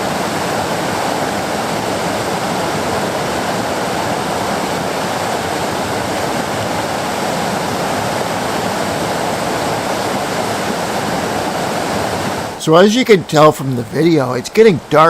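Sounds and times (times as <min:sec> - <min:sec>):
water rushing over rock: 0:00.0 - 0:15.0.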